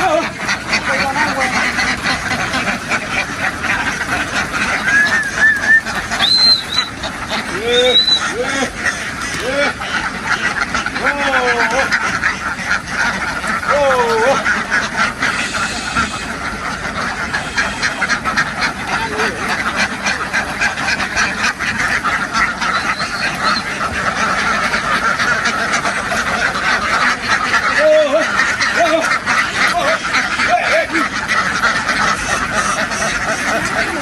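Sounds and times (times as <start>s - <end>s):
flock of ducks quacking: 0.0s - 34.0s.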